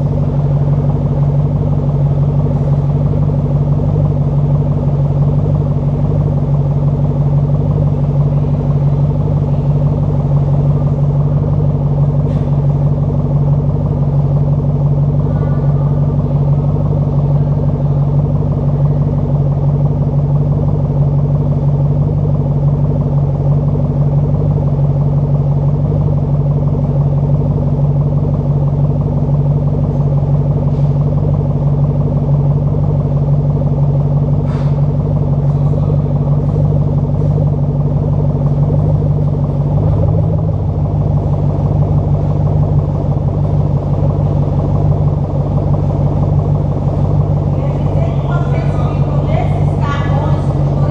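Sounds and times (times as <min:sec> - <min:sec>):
car exhaust running steadily: 0:00.0 - 0:50.9.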